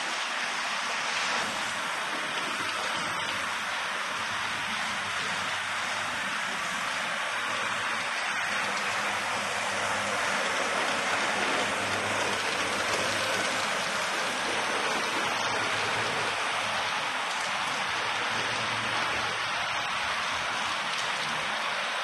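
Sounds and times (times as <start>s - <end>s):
steady hissing noise: 0.0s - 22.0s.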